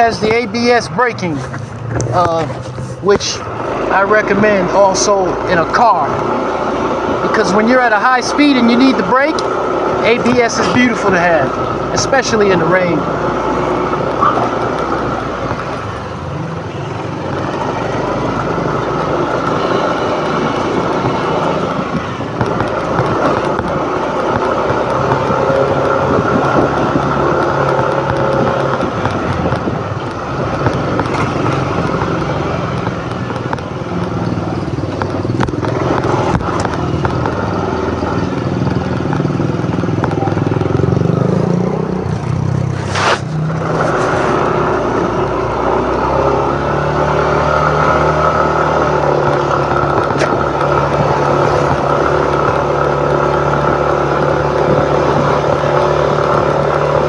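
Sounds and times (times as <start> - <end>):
road noise: 0.0 - 57.0
scooter engine running: 0.0 - 57.0.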